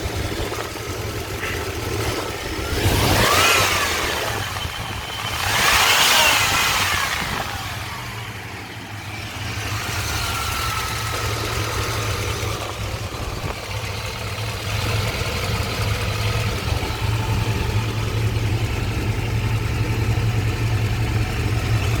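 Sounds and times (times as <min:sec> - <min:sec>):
engine idling: 0:00.0 - 0:22.0
engine ticking: 0:00.0 - 0:22.0.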